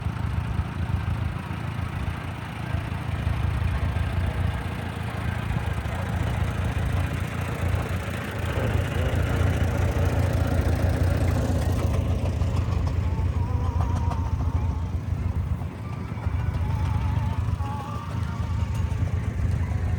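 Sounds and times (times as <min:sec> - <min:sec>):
steam engine running: 0:00.0 - 0:19.9.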